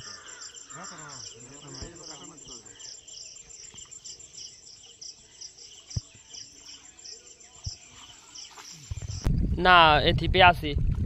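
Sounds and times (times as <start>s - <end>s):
insects chirping: 0.0s - 9.4s.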